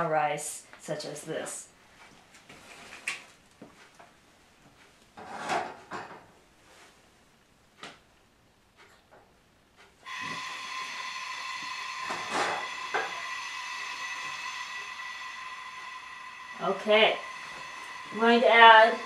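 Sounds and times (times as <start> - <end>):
stove hiss with high whine: 0.0 - 19.0.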